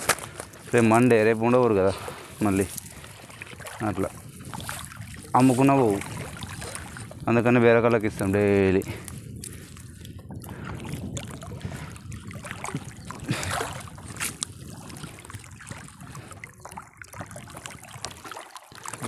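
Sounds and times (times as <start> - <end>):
water splashing and dripping: 0.3 - 19.0.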